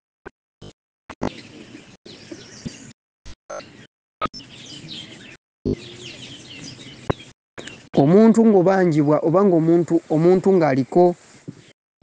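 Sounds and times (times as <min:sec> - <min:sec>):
birds chirping: 0:01.2 - 0:11.8.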